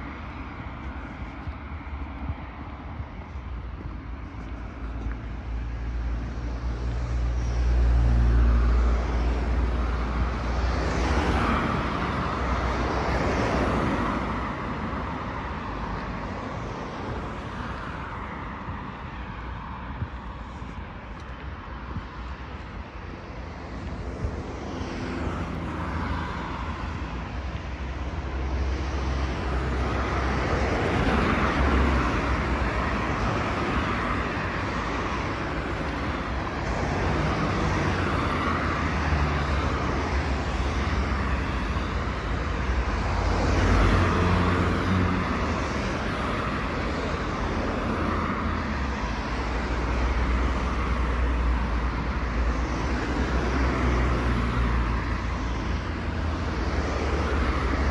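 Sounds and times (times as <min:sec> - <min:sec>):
cars passing: 0:00.0 - 0:57.9.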